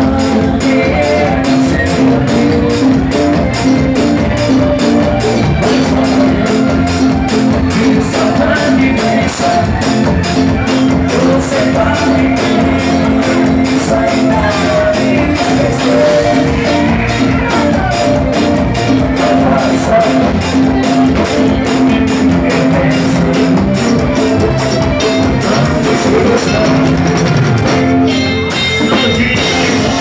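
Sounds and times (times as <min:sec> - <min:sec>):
man singing into a microphone: 0:00.0 - 0:04.3, 0:05.0 - 0:24.2, 0:25.2 - 0:27.3, 0:28.5 - 0:30.0
bass guitar: 0:00.0 - 0:30.0
drums: 0:00.0 - 0:30.0
electric guitar: 0:00.0 - 0:30.0.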